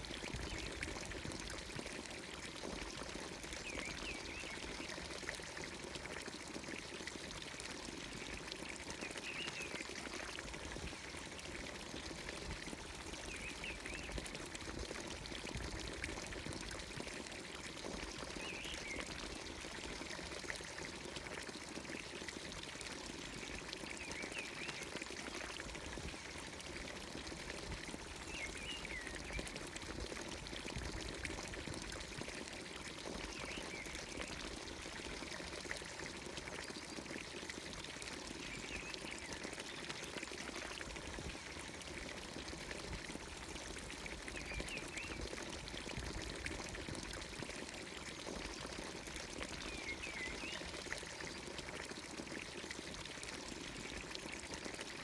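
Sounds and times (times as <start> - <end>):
water pouring into trough: 0.0 - 55.0.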